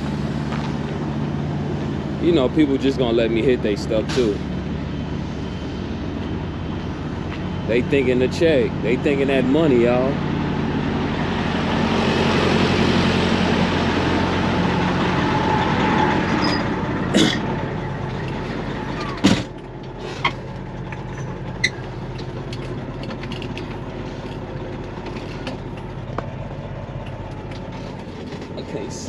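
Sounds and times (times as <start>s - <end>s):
semi-truck diesel engine running: 0.0s - 29.0s.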